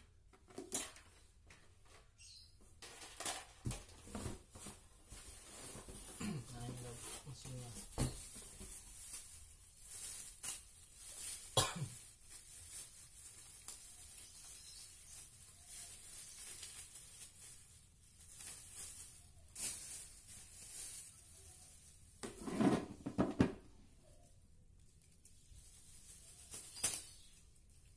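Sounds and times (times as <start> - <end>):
plastic bags crinkling: 2.2 - 23.0, 24.7 - 27.9.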